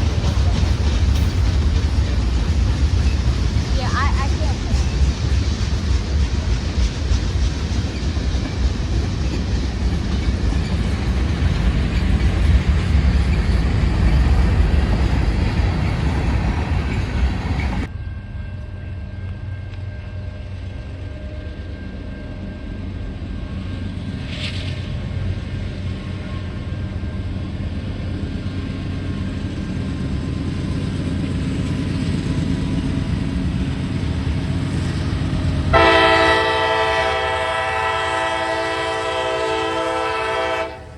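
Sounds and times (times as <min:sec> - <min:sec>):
train running on rails: 0:00.0 - 0:40.9.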